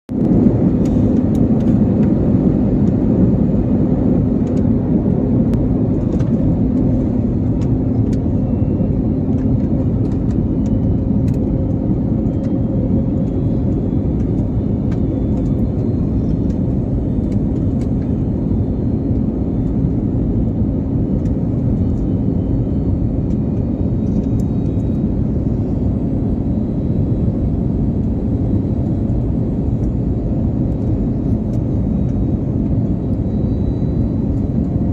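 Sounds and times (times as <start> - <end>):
airliner cabin engine drone: 0.1 - 34.9
low hum: 0.1 - 34.9.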